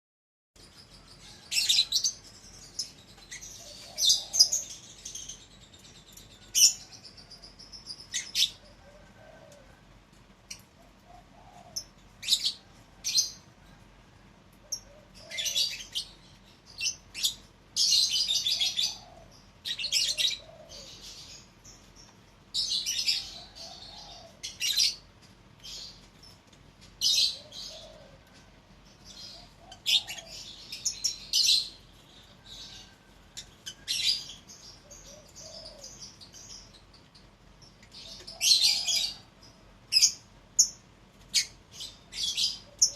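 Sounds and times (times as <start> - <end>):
birds chirping: 0.6 - 42.9.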